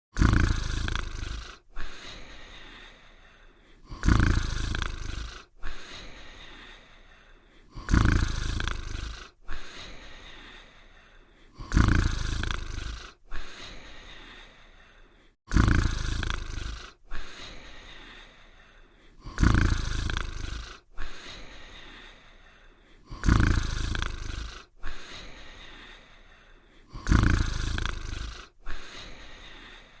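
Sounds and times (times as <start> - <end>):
cartoon dog snoring: 0.1 - 30.0.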